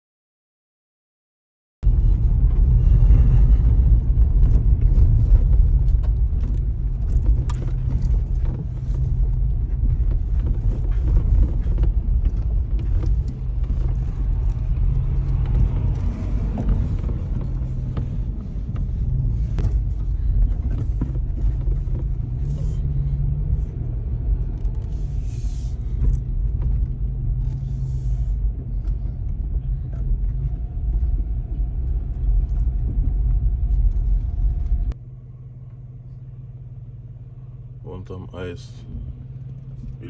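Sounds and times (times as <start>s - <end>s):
loud low rumble: 1.8s - 40.0s.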